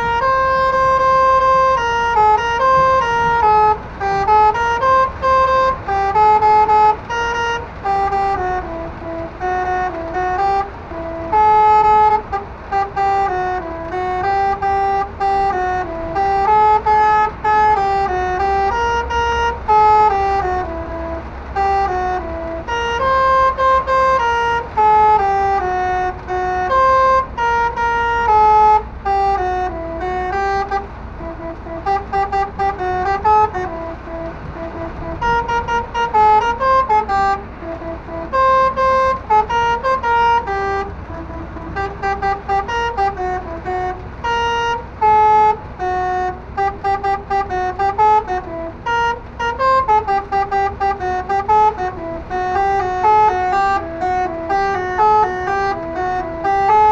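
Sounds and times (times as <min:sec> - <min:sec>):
engine and road rumble: 0:00.0 - 0:56.9
truck air horn playing tune: 0:00.0 - 0:56.9.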